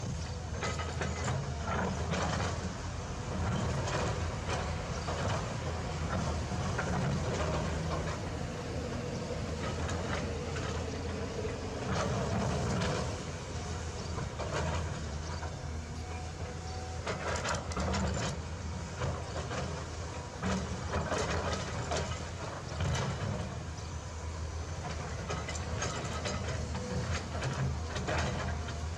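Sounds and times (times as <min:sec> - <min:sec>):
heavy machine engine running: 0:00.0 - 0:28.9.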